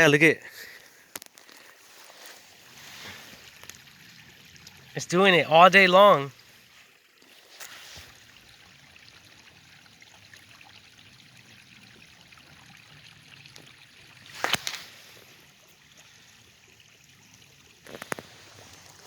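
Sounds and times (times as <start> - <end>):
stream water trickling: 0.0 - 19.0.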